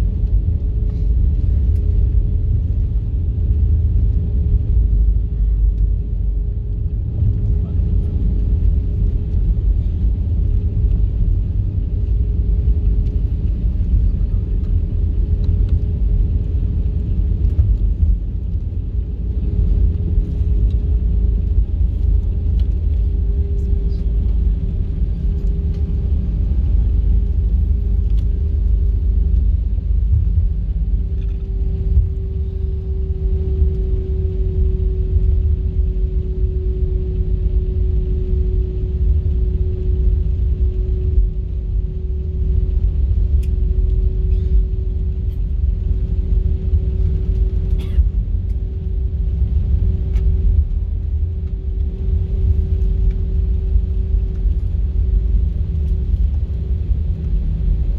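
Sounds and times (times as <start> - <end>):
jet engine cabin rumble: 0.0 - 57.9
steady engine hum: 0.0 - 57.9.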